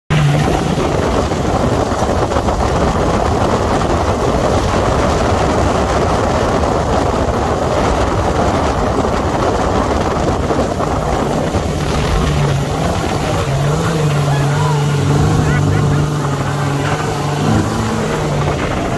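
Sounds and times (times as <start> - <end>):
dune buggy engine running: 0.1 - 18.9
wind noise on microphone: 0.1 - 18.9.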